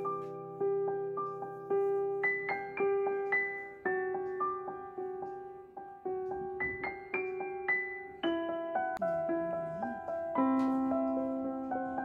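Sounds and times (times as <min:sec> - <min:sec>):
gentle keyboard melody: 0:00.0 - 0:12.0.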